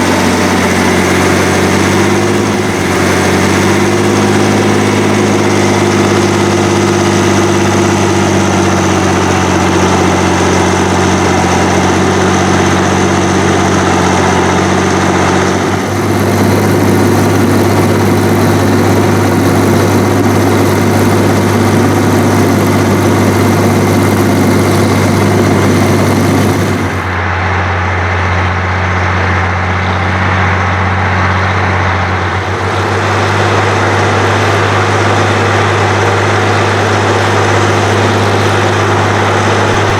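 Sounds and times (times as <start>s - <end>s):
heavy diesel tractor engines: 0.0s - 39.9s.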